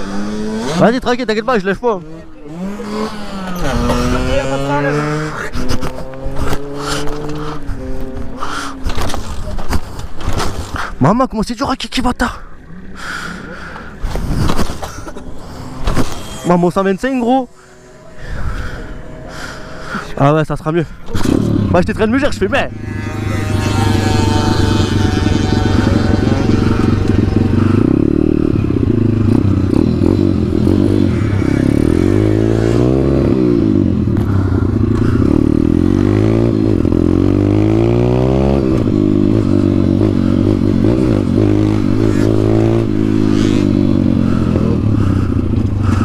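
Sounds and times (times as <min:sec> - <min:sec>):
dirt bike engine revving: 0:00.0 - 0:09.5, 0:14.0 - 0:46.0.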